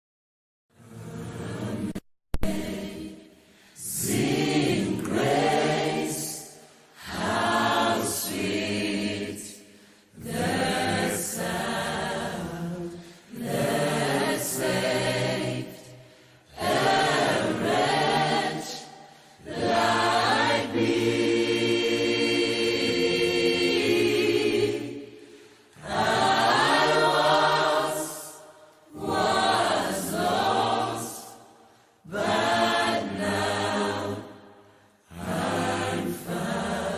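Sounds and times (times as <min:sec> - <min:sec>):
choir singing: 0:00.7 - 0:36.9.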